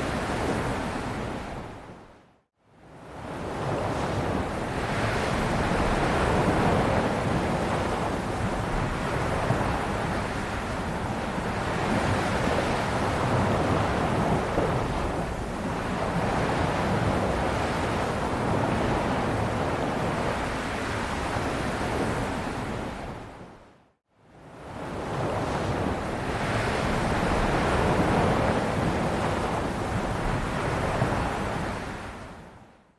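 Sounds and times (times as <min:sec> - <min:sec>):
ocean waves surging: 0:00.0 - 0:01.9, 0:03.1 - 0:23.7, 0:24.6 - 0:32.7.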